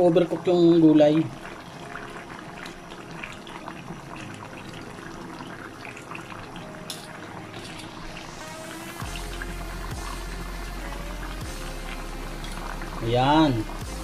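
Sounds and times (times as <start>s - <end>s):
sauce bubbling in a wok: 0.0s - 14.0s.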